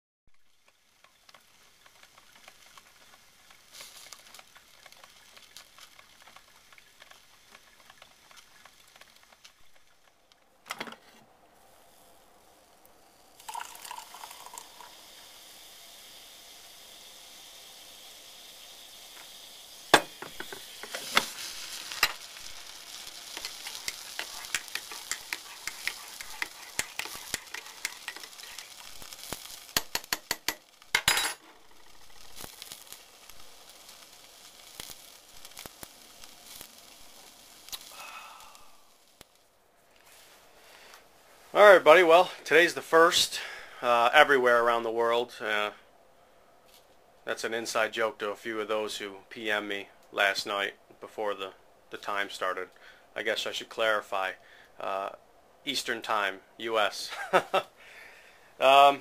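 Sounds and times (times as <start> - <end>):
faint hiss: 0.3 - 59.0.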